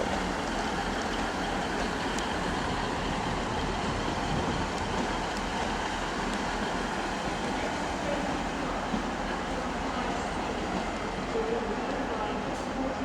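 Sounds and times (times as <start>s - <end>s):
train running: 0.0s - 13.0s.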